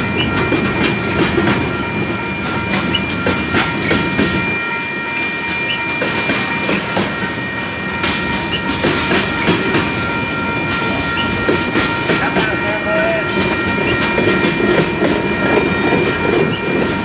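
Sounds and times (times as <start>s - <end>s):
freight train wheels rumbling: 0.0s - 17.0s
high-pitched ringing tone: 0.0s - 17.0s.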